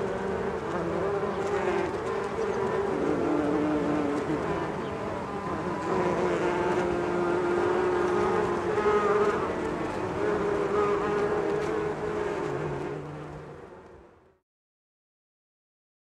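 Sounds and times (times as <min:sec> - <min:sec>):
bees buzzing: 0:00.0 - 0:14.1.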